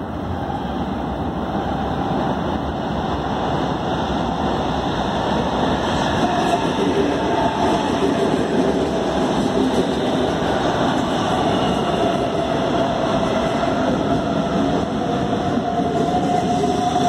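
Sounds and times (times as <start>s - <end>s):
faint train whine: 0.0s - 17.0s
train wheels rumbling on rails: 0.0s - 17.0s.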